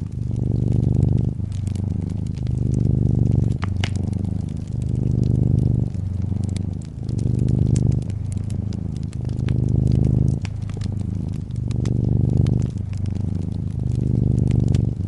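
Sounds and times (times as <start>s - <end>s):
cat purring: 0.0s - 15.0s
wood fire crackling and popping: 0.0s - 15.0s.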